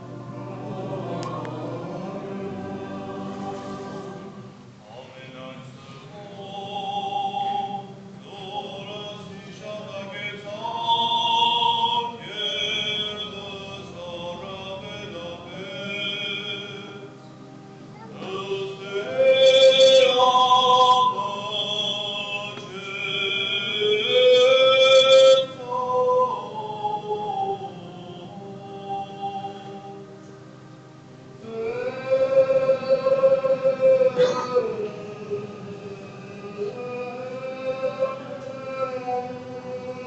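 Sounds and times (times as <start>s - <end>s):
choir singing a slow chant: 0.0s - 17.4s, 18.0s - 30.4s, 31.3s - 40.0s.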